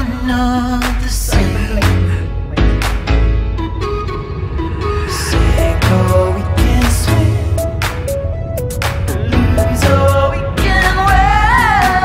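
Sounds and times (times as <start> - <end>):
background pop music: 0.0 - 12.0.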